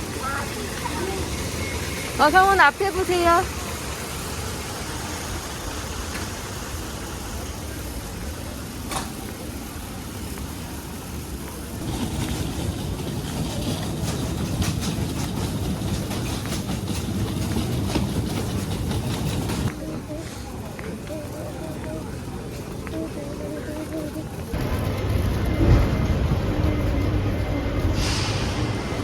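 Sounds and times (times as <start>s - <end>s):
engine rumble: 0.0s - 29.0s.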